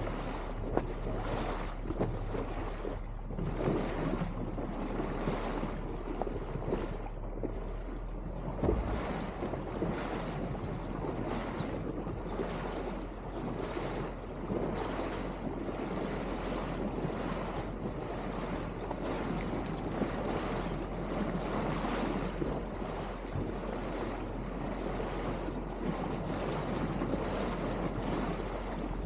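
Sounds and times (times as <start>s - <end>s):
water rushing along boat hull: 0.0s - 29.0s
wind buffeting microphone: 0.0s - 29.0s.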